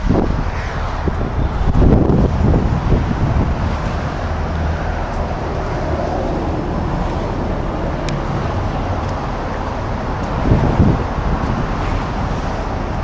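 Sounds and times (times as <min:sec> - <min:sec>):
low engine rumble: 0:00.0 - 0:13.0
wind noise on microphone: 0:00.0 - 0:13.0.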